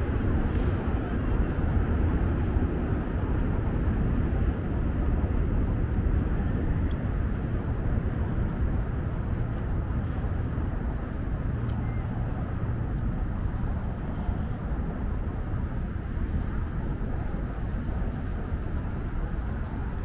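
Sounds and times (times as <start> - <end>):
low city rumble: 0.0 - 20.0.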